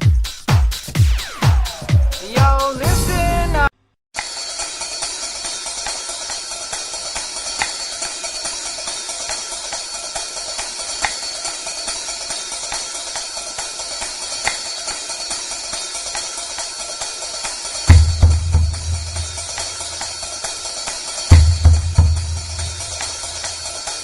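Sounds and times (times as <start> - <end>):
shimmering percussion music: 0.6 - 24.0.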